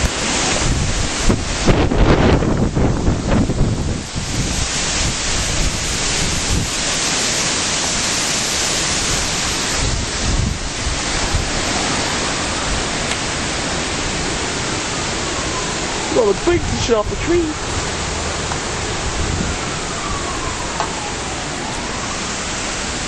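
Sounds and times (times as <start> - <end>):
wind buffeting microphone: 0.0 - 22.9
strong rushing wind: 0.0 - 23.0.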